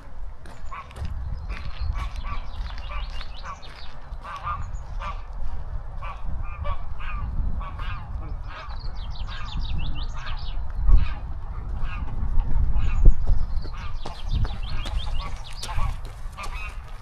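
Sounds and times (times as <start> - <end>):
geese honking: 0.0 - 13.1, 13.7 - 17.0
low rumble: 0.0 - 17.0.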